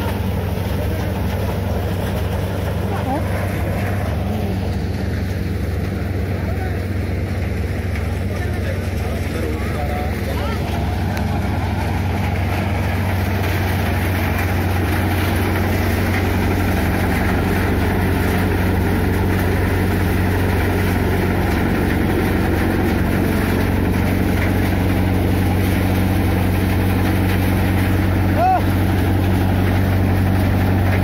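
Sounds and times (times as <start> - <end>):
thresher machine droning: 0.0 - 31.0.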